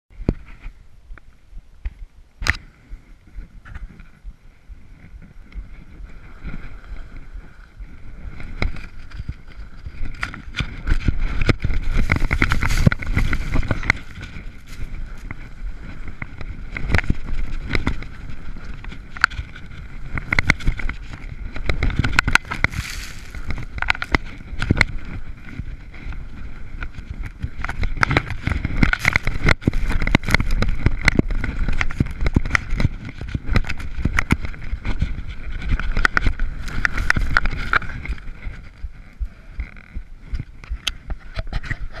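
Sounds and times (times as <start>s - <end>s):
wind buffeting microphone: 0.1s - 42.0s
skis scraping over snow: 3.3s - 42.0s.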